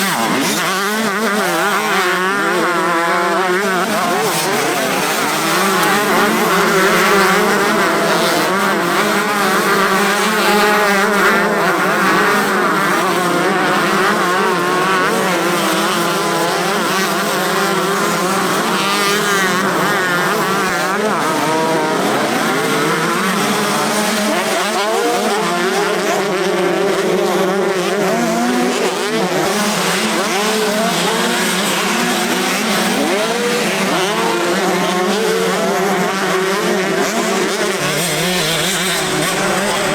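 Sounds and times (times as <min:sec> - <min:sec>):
motocross bikes revving past: 0:00.0 - 0:39.9.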